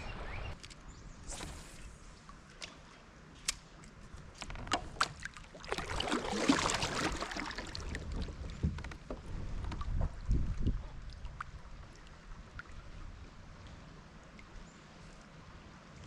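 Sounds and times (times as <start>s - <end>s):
water splashing around a kayak: 1.4s - 16.0s.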